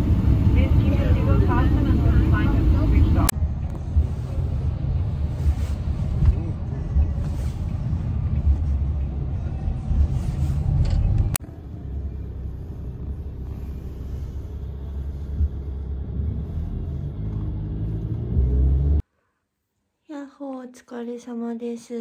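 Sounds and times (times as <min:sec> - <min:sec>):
vehicle rumbling in motion: 0:00.0 - 0:19.0.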